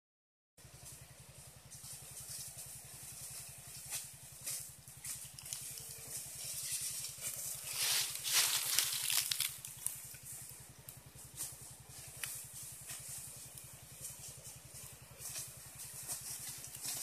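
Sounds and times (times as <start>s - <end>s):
power sprayer pump running: 0.6s - 17.0s.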